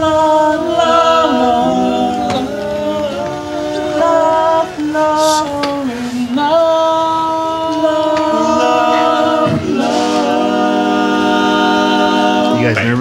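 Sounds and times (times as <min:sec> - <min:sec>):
men singing a cappella harmony: 0:00.0 - 0:13.0.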